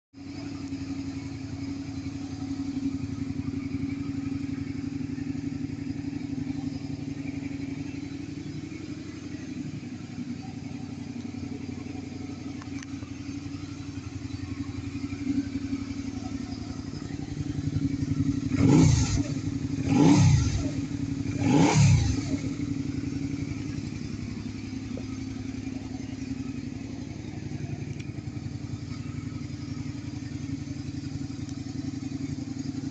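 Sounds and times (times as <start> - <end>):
motorcycle engine idling and revving: 0.1 - 32.9.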